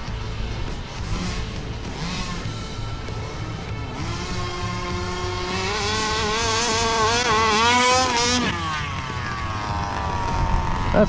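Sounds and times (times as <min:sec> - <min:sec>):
model buggy engine revving: 0:00.0 - 0:11.0.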